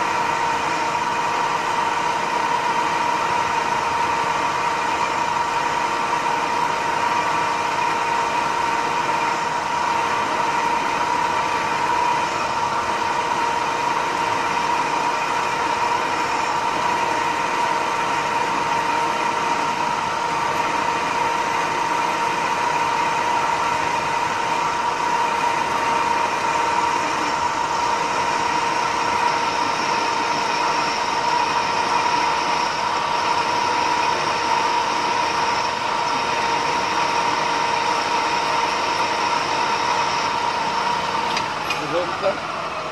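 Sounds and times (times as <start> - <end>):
metal lathe whining: 0.0 - 42.9.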